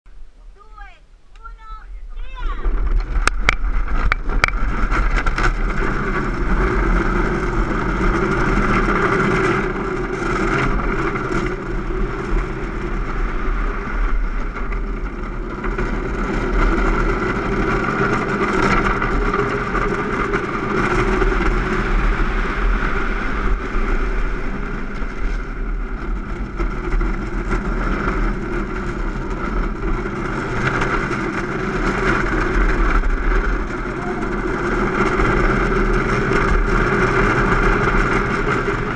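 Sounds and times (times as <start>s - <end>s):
wheels rumbling on asphalt: 0.1s - 38.9s
wind rushing over camera: 0.1s - 38.9s.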